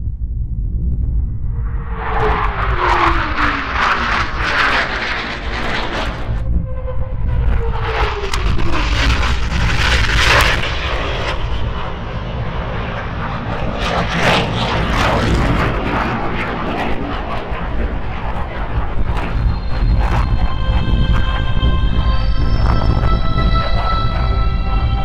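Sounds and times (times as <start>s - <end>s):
fighter jets roaring overhead: 1.4s - 25.0s.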